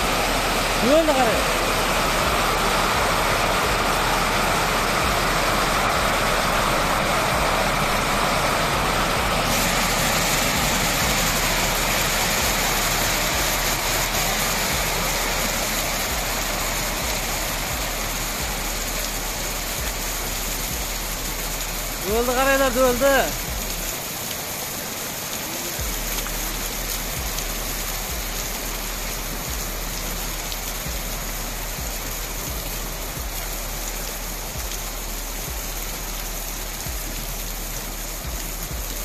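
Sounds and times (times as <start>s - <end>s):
hail pelting pavement and roofs: 0.0s - 39.0s.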